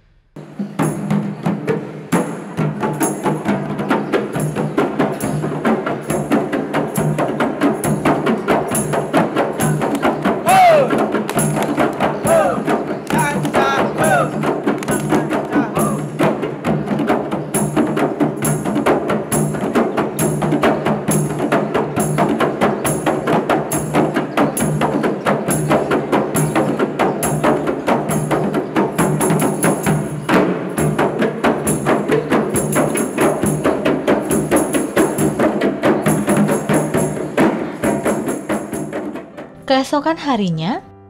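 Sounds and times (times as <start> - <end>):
fast traditional drumming: 0.4 - 40.8.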